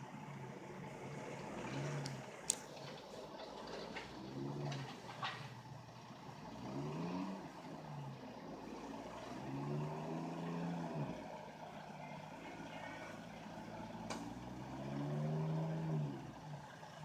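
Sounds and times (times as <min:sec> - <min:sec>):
tires spinning in snow: 0:00.0 - 0:17.0
truck engine revving: 0:00.0 - 0:17.0.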